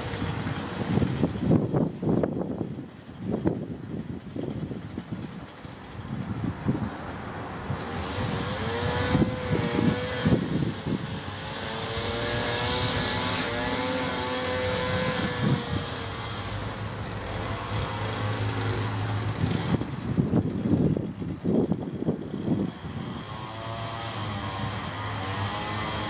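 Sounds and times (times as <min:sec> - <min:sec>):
string trimmer engine whining: 0:00.0 - 0:26.0
wind rumbling on microphone: 0:00.0 - 0:26.0.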